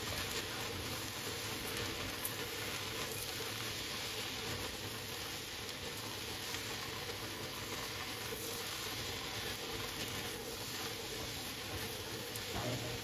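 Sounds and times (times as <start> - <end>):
faint crackles: 0.0 - 13.0
food sizzling in pan: 0.0 - 13.0.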